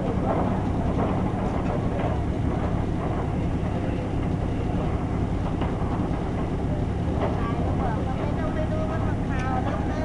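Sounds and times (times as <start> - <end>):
diesel train rumbling: 0.0 - 10.0.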